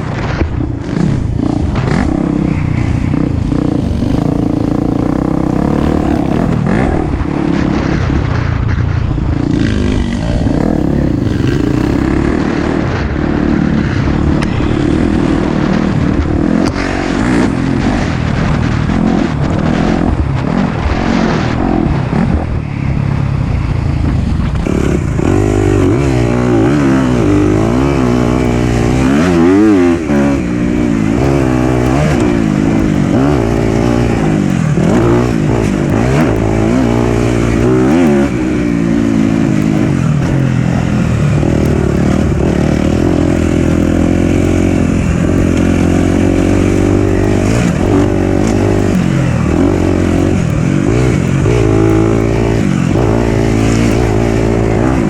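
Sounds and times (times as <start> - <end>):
dirt bike engine revving: 0.0 - 22.8, 23.4 - 55.0.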